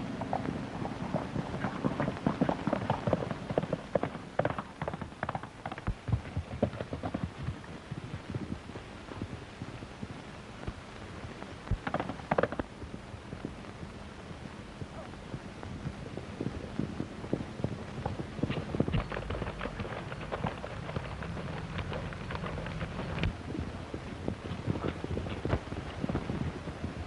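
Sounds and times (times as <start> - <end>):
horse hooves galloping: 0.0 - 27.0.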